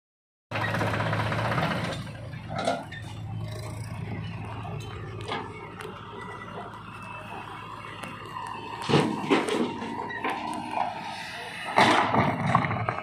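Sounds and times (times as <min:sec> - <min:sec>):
diesel engines running: 0:00.5 - 0:13.0.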